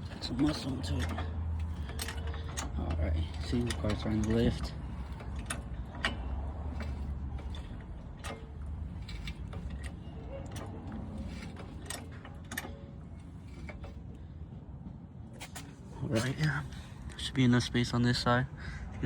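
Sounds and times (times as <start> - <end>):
car jack clicks and creaks: 0.0 - 14.4, 15.3 - 16.8.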